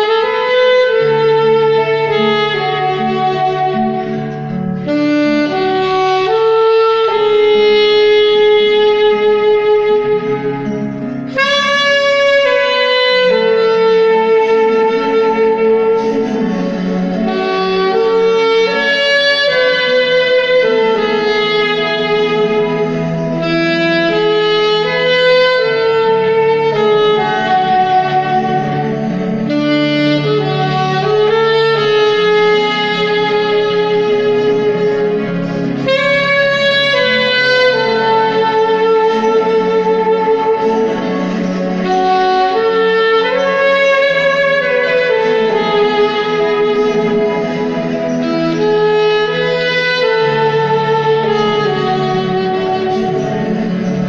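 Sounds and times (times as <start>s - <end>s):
saxophone playing slow melody: 0.0s - 54.0s
sustained low chords: 0.0s - 54.0s.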